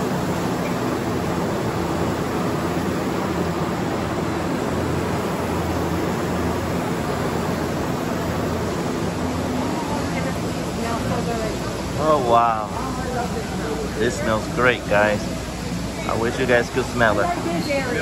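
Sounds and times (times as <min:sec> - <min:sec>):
factory machinery rushing noise: 0:00.0 - 0:18.0.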